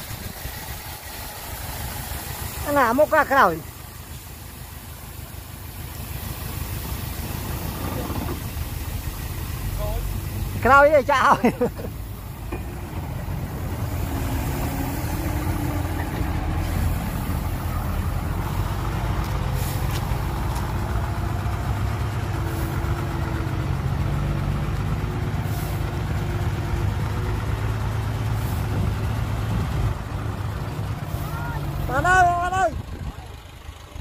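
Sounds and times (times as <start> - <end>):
heavy diesel engine rumbling: 0.0 - 34.0.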